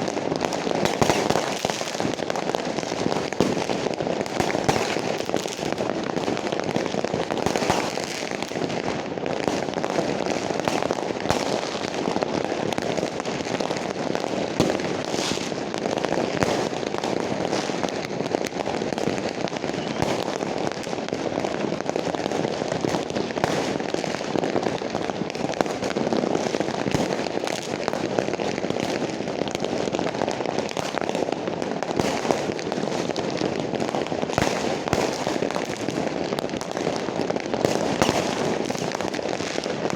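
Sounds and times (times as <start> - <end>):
fireworks popping and crackling: 0.0 - 39.9.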